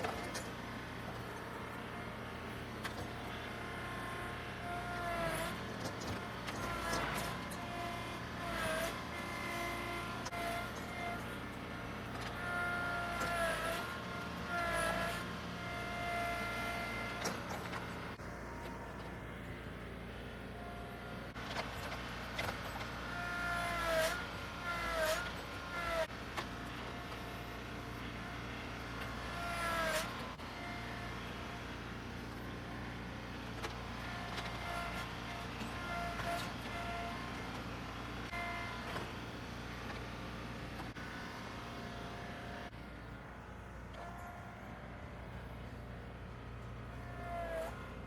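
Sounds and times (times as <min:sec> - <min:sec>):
tractor engine whining: 0:00.0 - 0:48.0.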